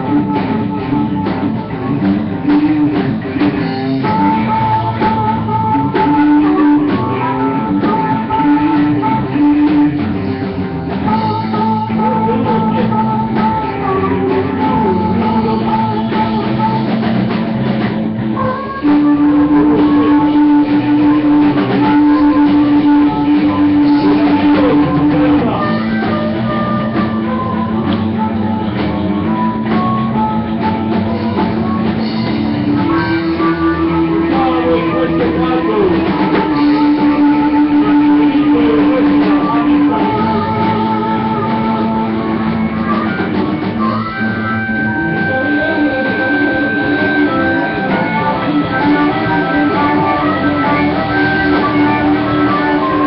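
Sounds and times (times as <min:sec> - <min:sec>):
bass guitar: 0:00.0 - 0:53.0
drum kit: 0:00.0 - 0:53.0
electric guitars: 0:00.0 - 0:53.0.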